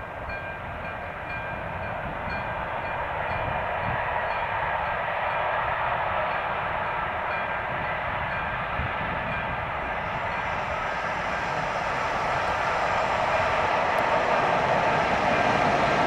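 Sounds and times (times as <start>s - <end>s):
freight train rolling past: 0.0s - 16.0s
wheels rushing on rails: 0.0s - 16.0s.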